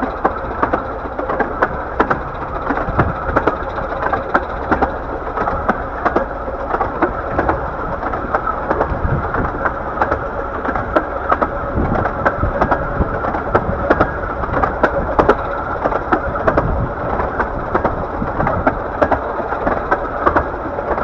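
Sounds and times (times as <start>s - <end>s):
faint steady whine: 0.0s - 21.0s
train rumbling along track: 0.0s - 21.0s
wheels clicking and knocking: 0.0s - 21.0s.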